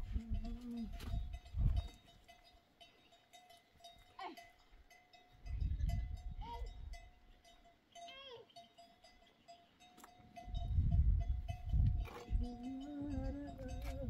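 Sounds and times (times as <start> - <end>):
livestock bells tinkling: 0.0 - 14.0.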